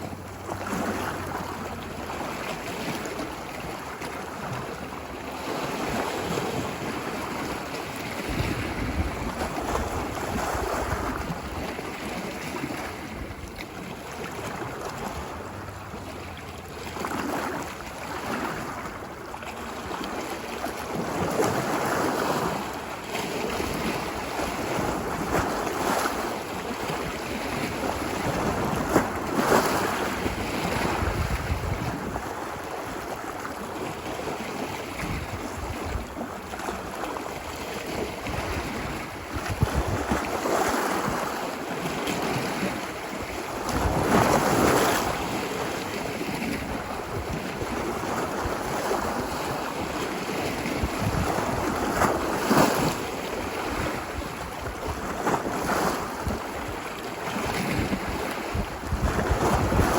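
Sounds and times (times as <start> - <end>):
waves washing onto beach: 0.0 - 59.9
wind rumbling on microphone: 0.0 - 59.9.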